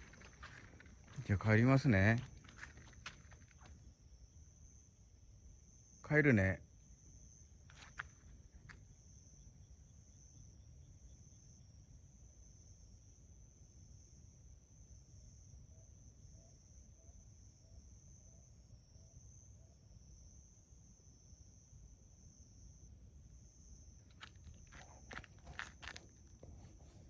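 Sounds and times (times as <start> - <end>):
night insects trilling: 0.0 - 27.0.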